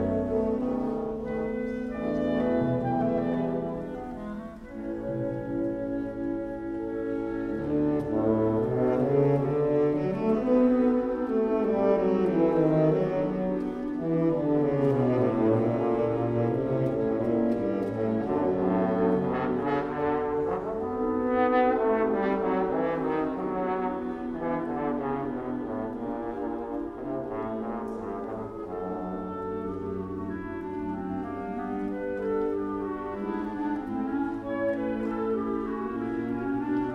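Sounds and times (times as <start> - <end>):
orchestra playing with brass: 0.0 - 36.9.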